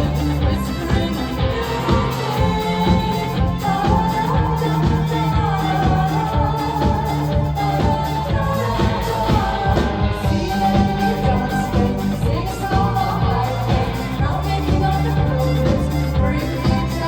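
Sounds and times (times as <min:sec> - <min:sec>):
bass notes: 0:00.0 - 0:17.0.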